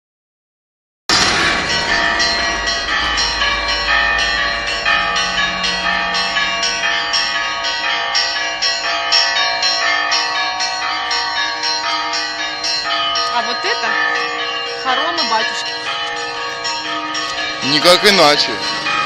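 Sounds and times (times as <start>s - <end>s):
high bells struck rapidly: 1.1s - 19.0s
low bells humming: 1.1s - 19.0s.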